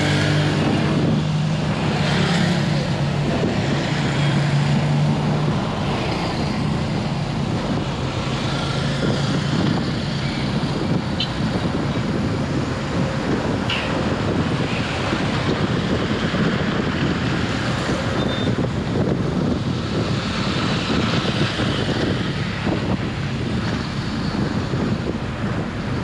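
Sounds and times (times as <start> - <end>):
car road noise: 0.0 - 26.0
hum of surrounding vehicles: 0.0 - 26.0.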